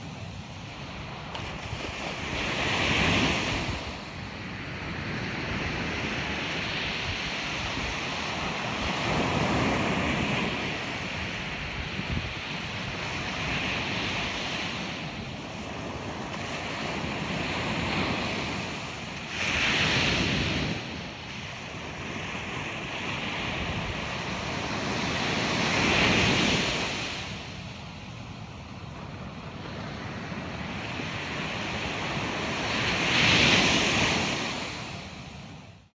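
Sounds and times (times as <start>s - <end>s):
surf washing: 0.0s - 35.7s
waves crashing: 0.0s - 35.7s
wind rumble on microphone: 0.0s - 35.8s.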